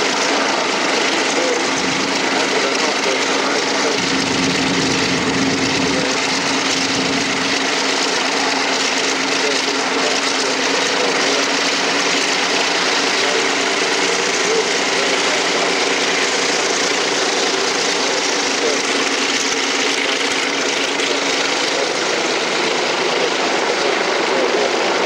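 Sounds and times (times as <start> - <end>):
radial aircraft engine running: 0.0 - 25.0.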